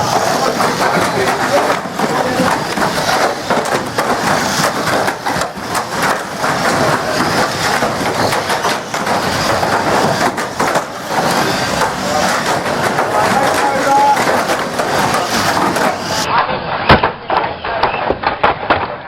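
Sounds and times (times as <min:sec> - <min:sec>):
cars crunching together: 0:00.0 - 0:19.0.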